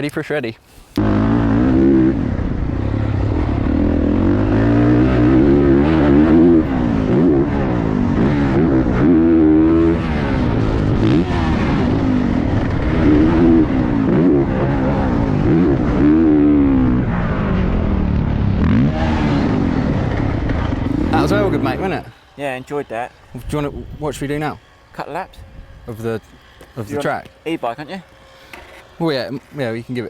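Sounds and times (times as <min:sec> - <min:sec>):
motorcycle engine revving: 0:01.0 - 0:29.7.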